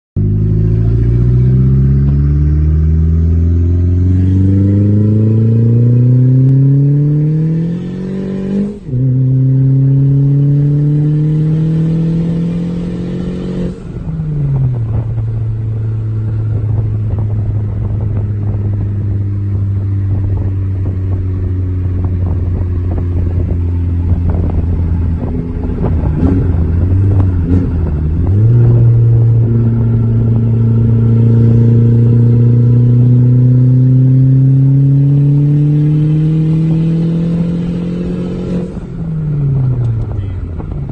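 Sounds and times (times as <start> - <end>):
car engine accelerating: 0.2 - 40.9.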